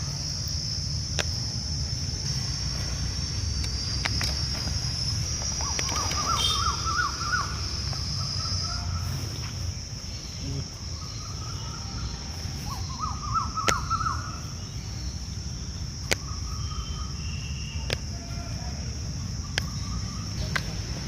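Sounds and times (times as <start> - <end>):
steady high whine: 0.0 - 21.0
birds chirping: 2.2 - 21.0.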